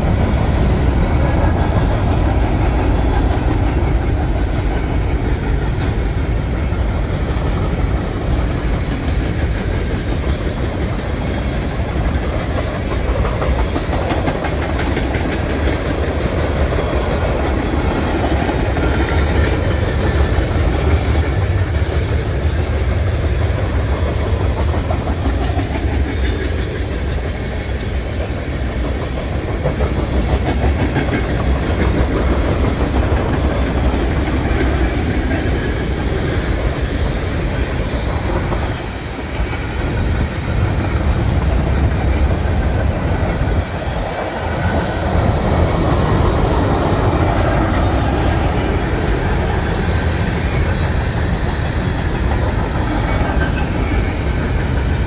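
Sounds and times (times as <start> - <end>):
train wheels rumbling on rails: 0.0 - 55.0
wheels clacking over rail joints: 0.0 - 55.0.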